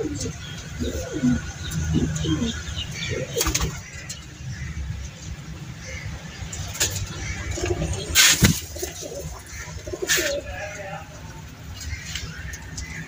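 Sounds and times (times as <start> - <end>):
pigeons cooing: 0.0 - 4.2, 6.6 - 13.0.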